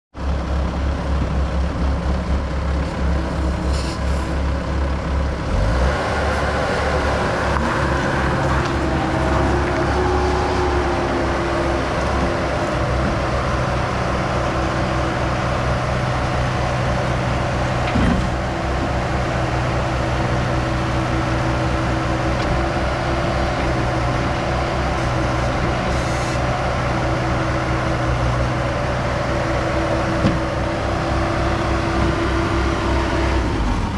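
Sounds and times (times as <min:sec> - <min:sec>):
skid steer diesel engine running: 0:00.2 - 0:33.9.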